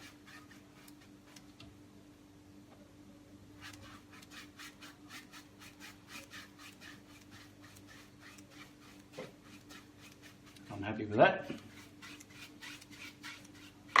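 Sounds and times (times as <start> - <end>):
paintbrush scrubbing on canvas: 0.0 - 1.5, 3.6 - 14.0.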